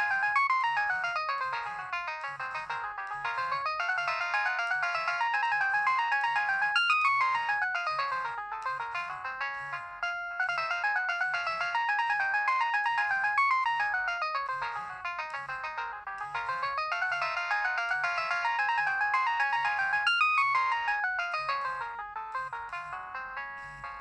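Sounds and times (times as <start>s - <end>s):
synthesized ringtone melody: 0.0s - 24.0s.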